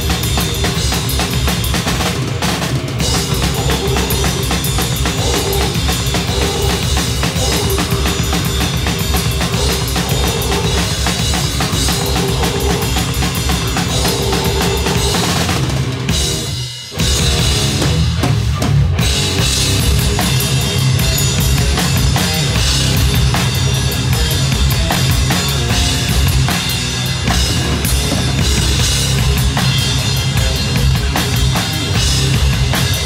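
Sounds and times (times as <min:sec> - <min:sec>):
metal band playing live: 0:00.0 - 0:33.0.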